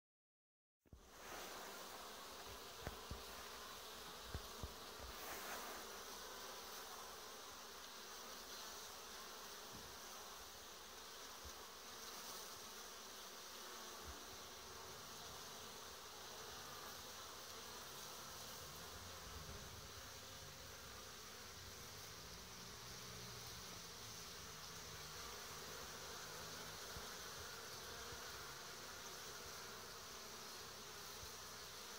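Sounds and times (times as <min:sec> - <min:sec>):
honeybees buzzing: 0:00.9 - 0:31.9.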